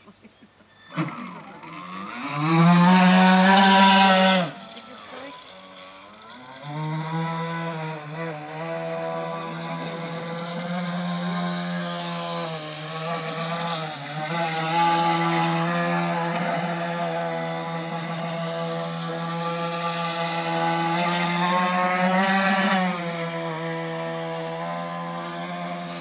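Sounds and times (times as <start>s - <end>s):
electric motor whining: 0.8s - 26.0s.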